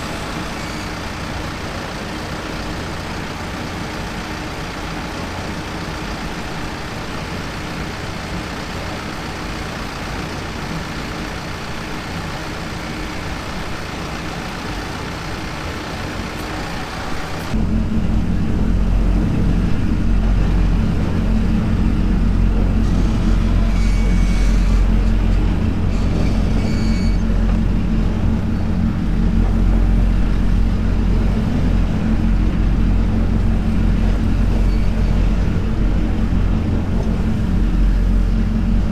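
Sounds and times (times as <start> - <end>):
deep engine drone: 0.0 - 38.9
tractor engine running: 0.0 - 38.9.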